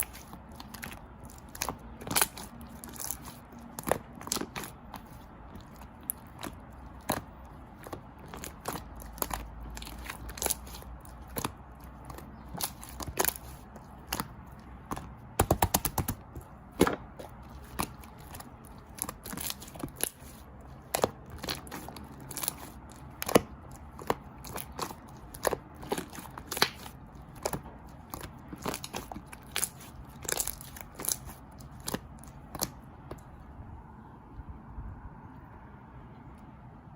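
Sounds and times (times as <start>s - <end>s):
chewing crisp grapes: 0.0s - 15.4s, 16.2s - 33.4s.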